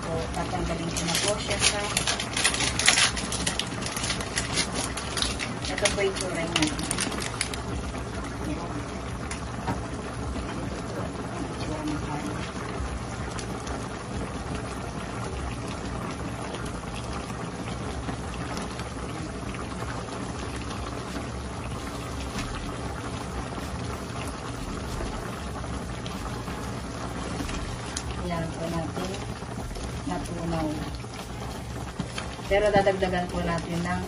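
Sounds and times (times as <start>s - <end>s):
broth bubbling in a pan: 0.0s - 34.0s.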